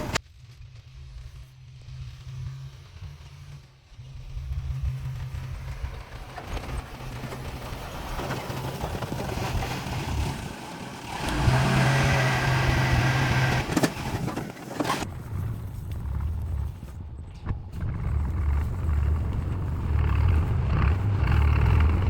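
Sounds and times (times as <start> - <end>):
diesel engine running: 0.0 - 0.2, 0.8 - 22.0.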